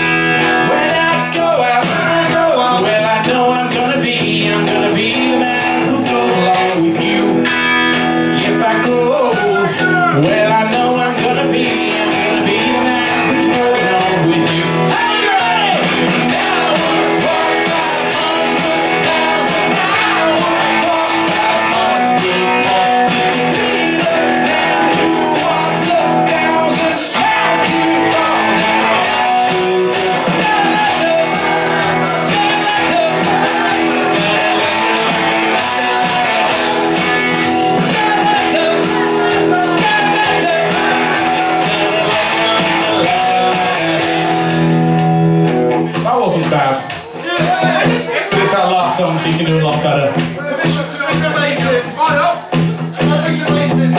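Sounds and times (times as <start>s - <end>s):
lead singer: 0.0s - 53.9s
live rock band through pa: 0.0s - 53.9s.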